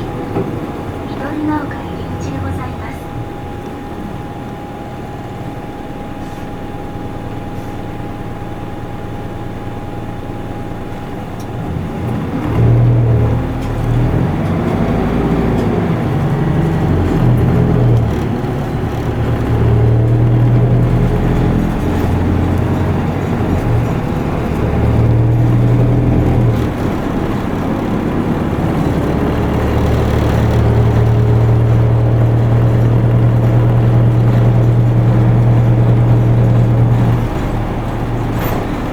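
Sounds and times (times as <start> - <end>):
bus diesel engine accelerating: 0.0 - 38.9.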